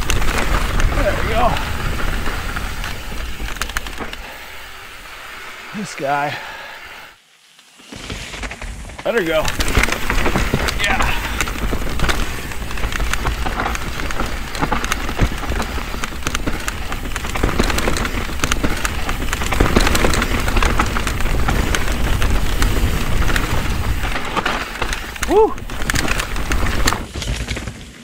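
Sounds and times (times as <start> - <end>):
bike rattling over roots: 0.0 - 6.6, 7.8 - 28.0
tyre and wind rush: 0.0 - 27.2.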